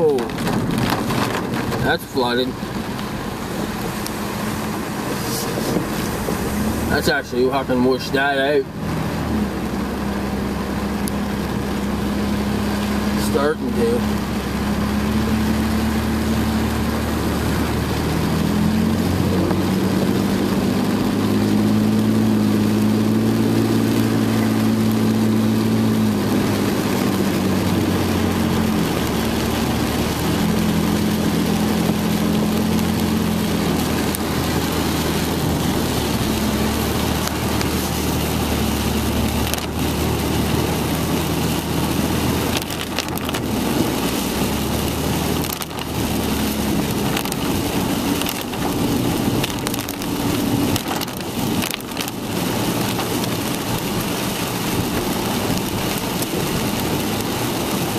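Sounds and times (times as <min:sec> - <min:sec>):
car engine hum: 0:00.0 - 0:57.9
rain: 0:00.0 - 0:57.9
tyres hissing on wet road: 0:00.0 - 0:57.9.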